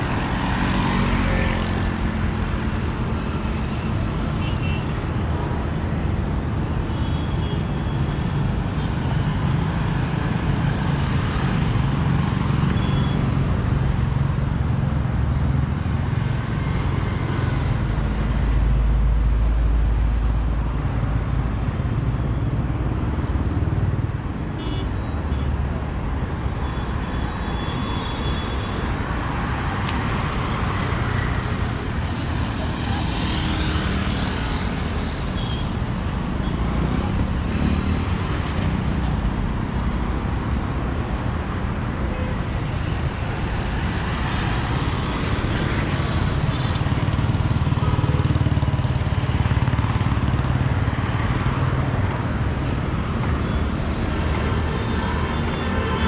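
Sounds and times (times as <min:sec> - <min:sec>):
cars and motorcycles passing: 0:00.0 - 0:56.0.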